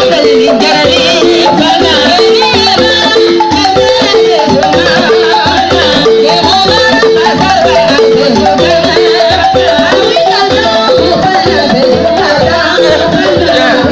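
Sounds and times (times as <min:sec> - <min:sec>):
low percussive beat: 0:00.0 - 0:13.9
wooden xylophone notes: 0:00.0 - 0:13.9.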